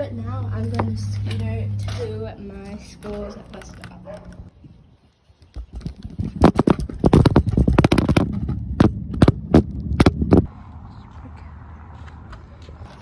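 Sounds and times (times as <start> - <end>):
scooter wheels rolling on sidewalk: 0.0 - 4.5, 5.6 - 13.0.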